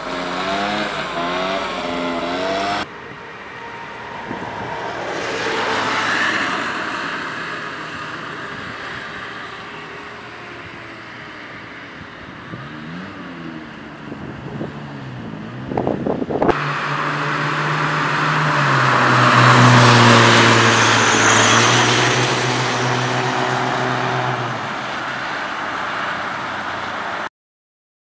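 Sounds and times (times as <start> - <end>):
car engine hum: 0.0 - 27.1.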